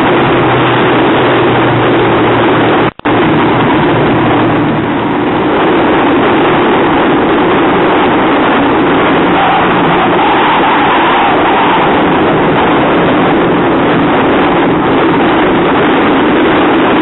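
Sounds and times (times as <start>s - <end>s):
outboard engines droning: 0.0s - 17.0s
wind and spray on microphone: 0.0s - 17.0s.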